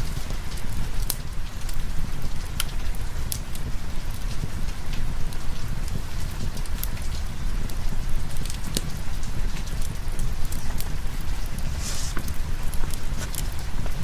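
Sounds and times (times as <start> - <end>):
continuous low rumble: 0.0 - 14.0
fireplace crackling: 0.0 - 14.0
steady rain: 0.0 - 14.0.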